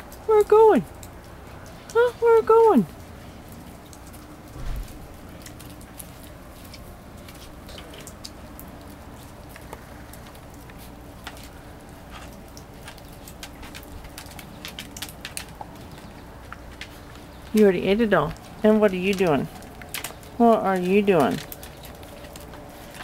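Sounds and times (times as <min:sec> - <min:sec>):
puppies eating from plastic dish: 0:00.0 - 0:23.0
paws and claws clicking: 0:02.8 - 0:23.0.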